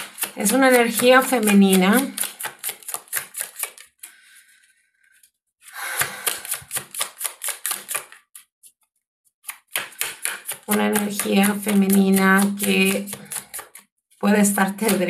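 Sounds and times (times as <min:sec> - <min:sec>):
cards being shuffled: 0:00.0 - 0:04.2, 0:05.2 - 0:08.8, 0:09.4 - 0:13.8, 0:14.4 - 0:15.0.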